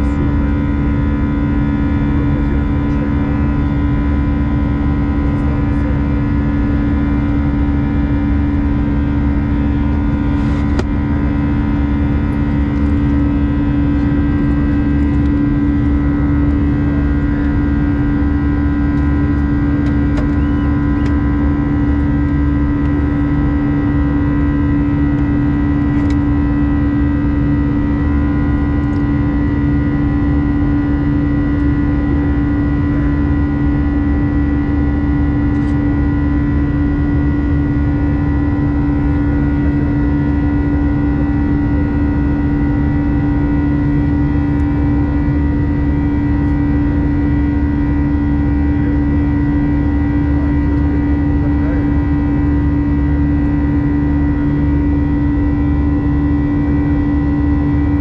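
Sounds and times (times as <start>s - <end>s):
aircraft cabin engine and airflow rush: 0.0s - 58.0s
low drone: 0.0s - 58.0s.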